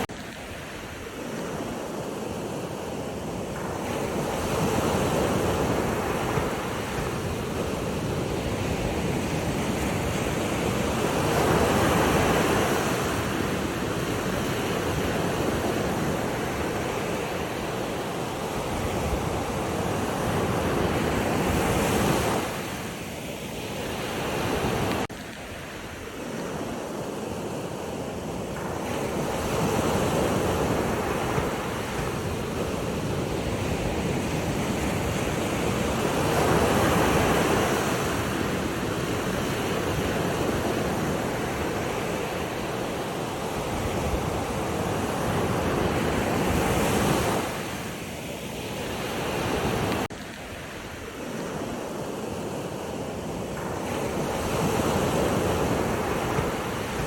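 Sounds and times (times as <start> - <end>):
sea waves washing on shore: 0.0 - 57.0
wind buffeting microphone: 0.0 - 57.0.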